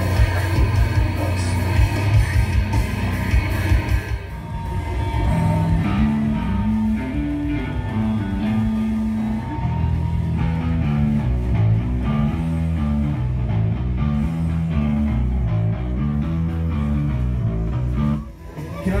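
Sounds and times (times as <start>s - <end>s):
bass guitar: 0.0s - 19.0s
distorted electric guitar riff: 0.0s - 19.0s
drums: 0.0s - 19.0s.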